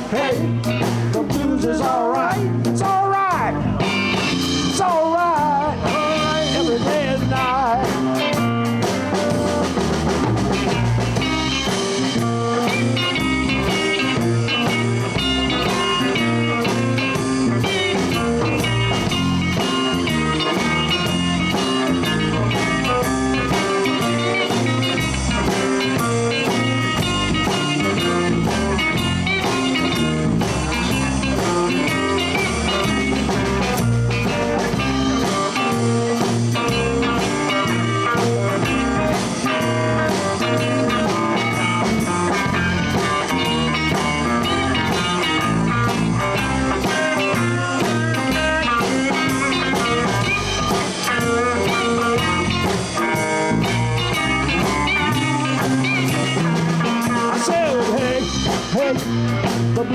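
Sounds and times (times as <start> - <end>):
bass guitar: 0.0 - 59.9
drum kit shuffle beat: 0.0 - 59.9
electric guitar lead: 0.0 - 59.9.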